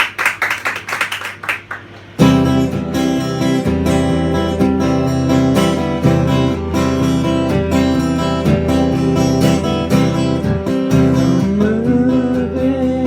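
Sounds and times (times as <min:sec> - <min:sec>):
acoustic guitar strumming chords: 0:02.2 - 0:13.0.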